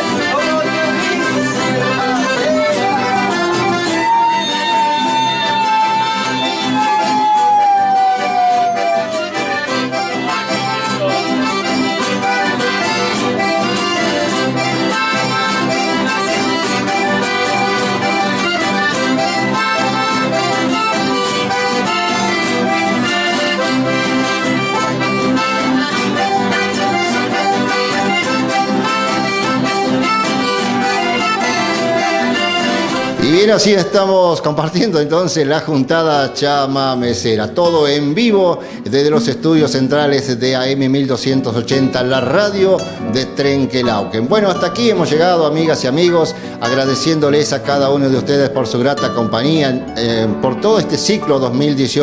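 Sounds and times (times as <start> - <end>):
accordion folk music: 0.0 - 52.0.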